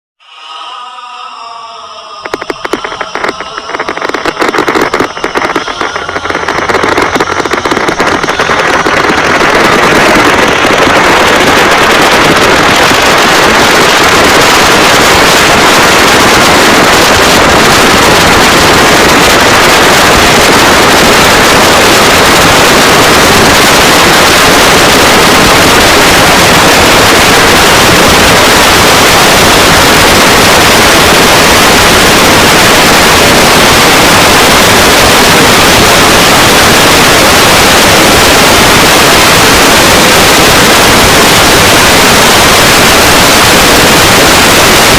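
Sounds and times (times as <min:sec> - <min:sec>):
distorted crackling static hiss: 0:02.0 - 0:44.9.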